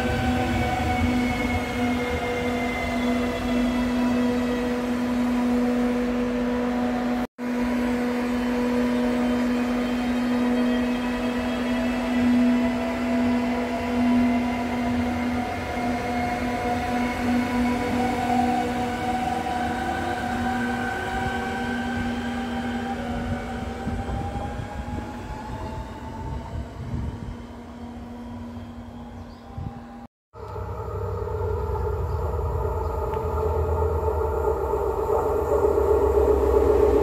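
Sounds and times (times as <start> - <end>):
electric train hum and whine: 0.0 - 37.0.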